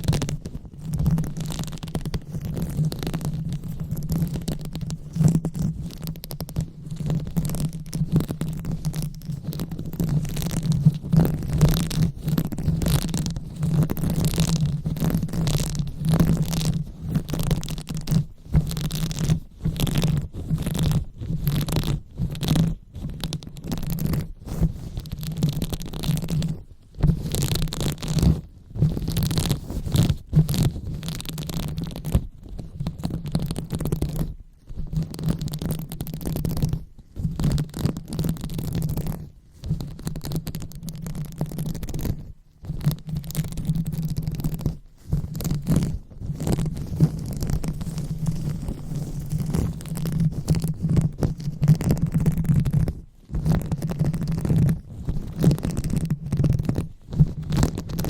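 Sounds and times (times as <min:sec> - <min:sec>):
rubbing and scratching on microphone: 0:00.0 - 0:58.0.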